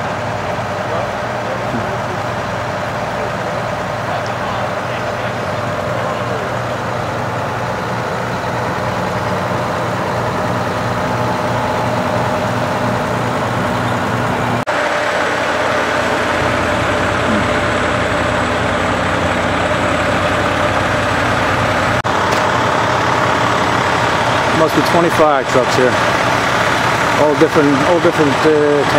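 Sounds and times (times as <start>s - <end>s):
diesel engines idling: 0.0s - 28.9s.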